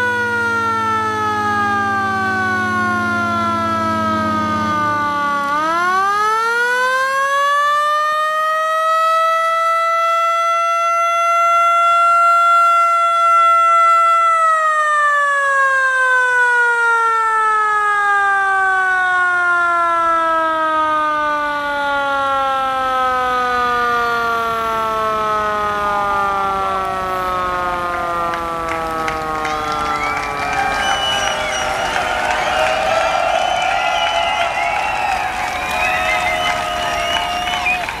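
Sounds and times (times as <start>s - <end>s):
siren wailing: 0.0s - 38.0s.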